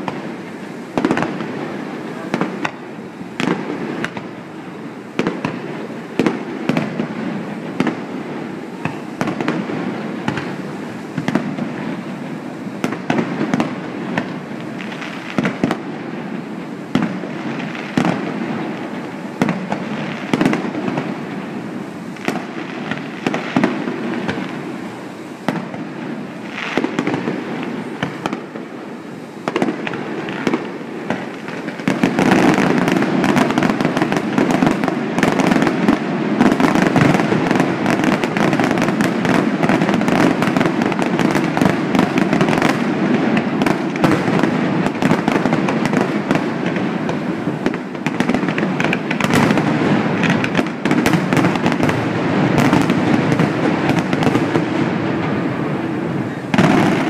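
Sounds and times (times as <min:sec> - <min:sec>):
steady background noise: 0:00.0 - 0:57.0.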